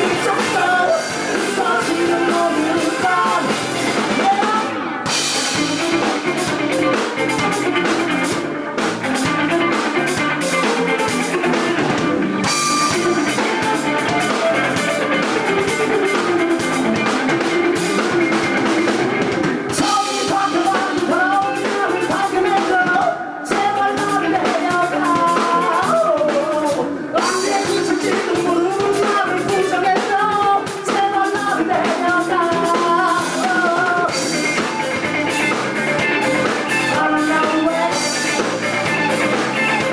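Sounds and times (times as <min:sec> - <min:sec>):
person singing: 0:00.0 - 0:08.4, 0:09.6 - 0:39.9
drum kit: 0:00.0 - 0:39.9
electric guitar: 0:00.0 - 0:39.9.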